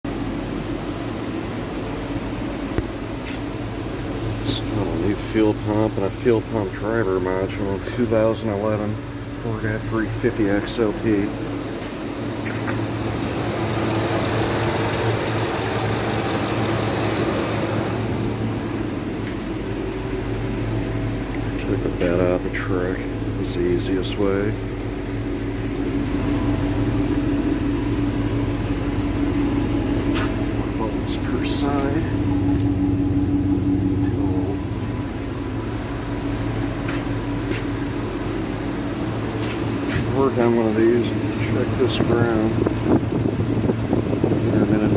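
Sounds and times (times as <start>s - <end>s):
engine idling: 0.0s - 44.9s
low mechanical hum: 0.0s - 44.9s.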